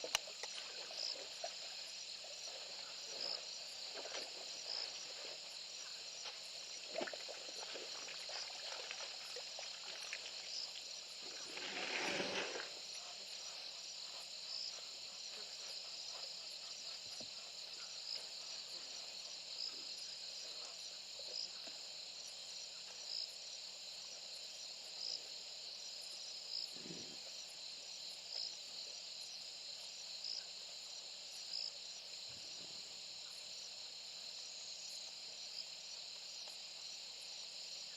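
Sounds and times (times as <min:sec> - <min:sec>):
crickets chirping: 0:00.0 - 0:37.9.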